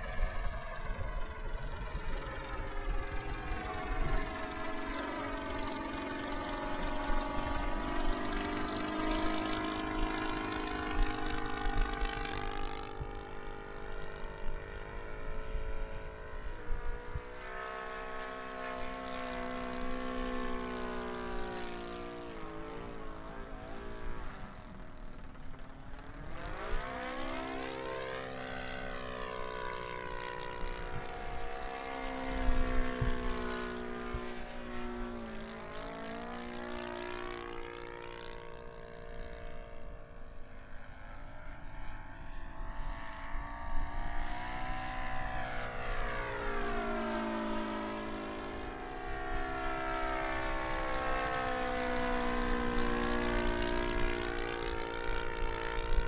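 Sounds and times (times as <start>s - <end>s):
model plane engine: 0.0s - 56.0s.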